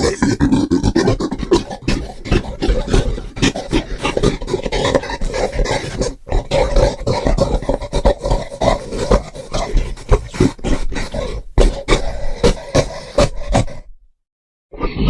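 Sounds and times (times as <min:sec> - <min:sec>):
monster growling roar: 0:00.0 - 0:13.9, 0:14.8 - 0:15.0.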